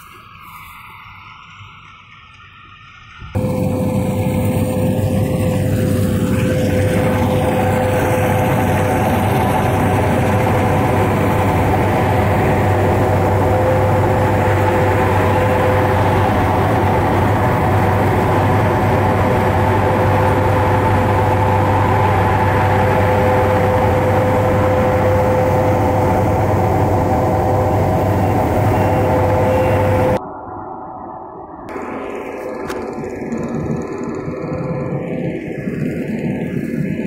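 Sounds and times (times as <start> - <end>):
combine harvester engine drone: 0.0 - 37.0
high whine: 0.0 - 37.0.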